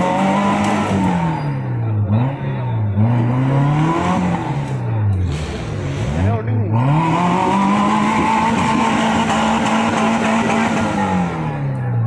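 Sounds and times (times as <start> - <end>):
engine revving hard: 0.0 - 11.8.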